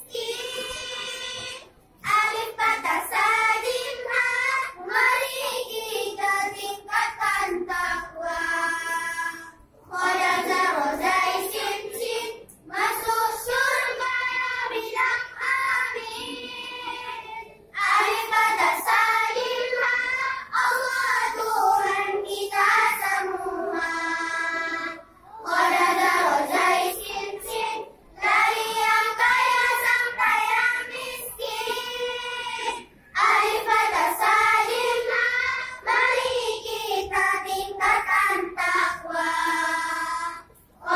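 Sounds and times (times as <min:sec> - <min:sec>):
children's choir singing: 0:00.0 - 0:40.9.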